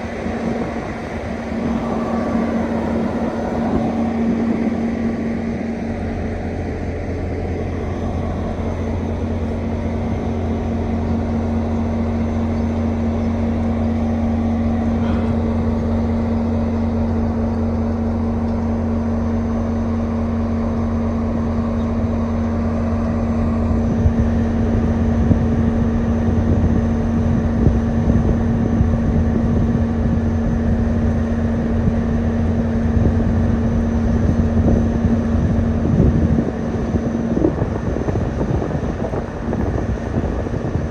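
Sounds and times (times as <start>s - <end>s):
vehicle engine drone: 0.0s - 40.9s.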